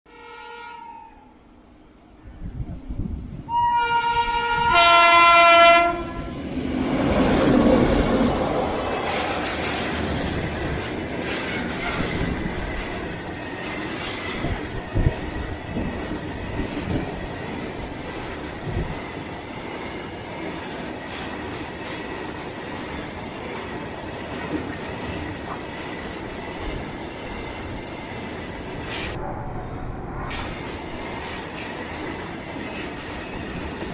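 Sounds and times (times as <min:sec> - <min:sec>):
train wheels rumbling on rail: 0:02.3 - 0:33.9.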